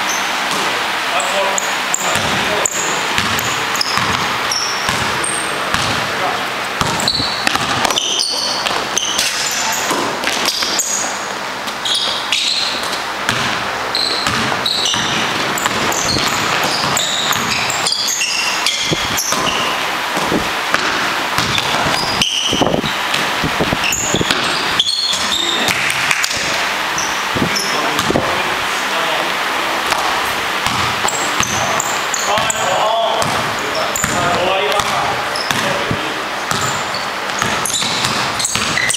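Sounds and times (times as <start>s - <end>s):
sneakers squeaking on gym floor: 0.0s - 28.3s, 29.9s - 38.9s
basketball bouncing on court: 0.1s - 0.8s, 1.6s - 28.4s, 29.9s - 38.9s.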